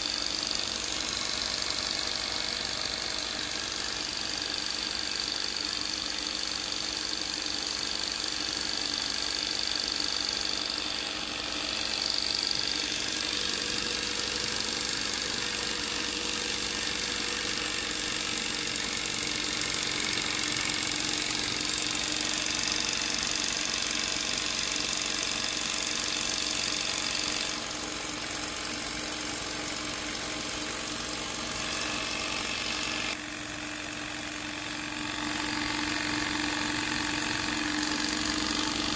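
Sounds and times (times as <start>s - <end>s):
toy steam engine running fast: 0.0s - 38.9s.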